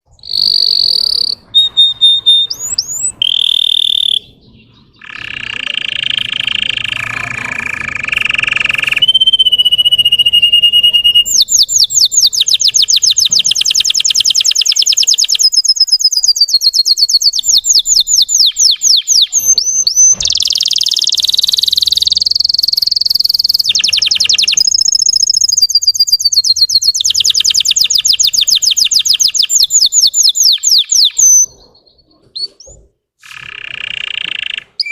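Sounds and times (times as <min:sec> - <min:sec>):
canary singing with trills: 0:00.1 - 0:34.9.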